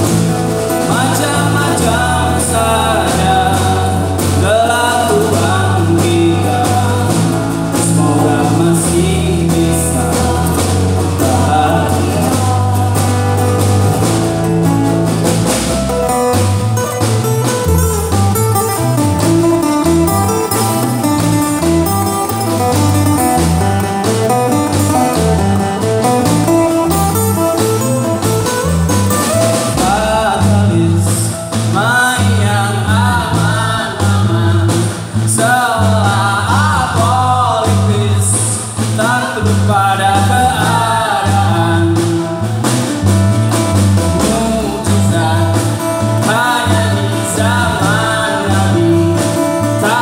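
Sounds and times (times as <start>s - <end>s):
live band with acoustic guitars: 0.0s - 50.0s
person singing: 0.7s - 14.1s, 18.7s - 42.4s, 44.0s - 50.0s.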